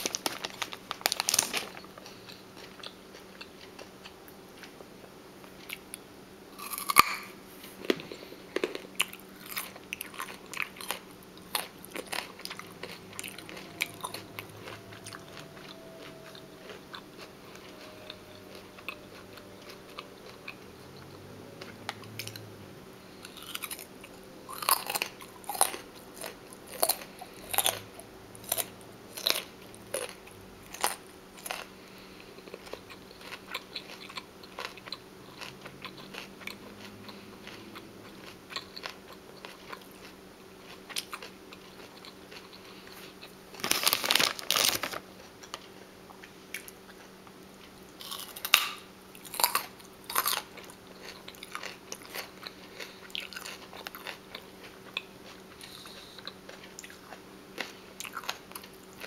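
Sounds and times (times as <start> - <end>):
chewing crunchy raw food: 0.0 - 6.0, 6.6 - 59.0.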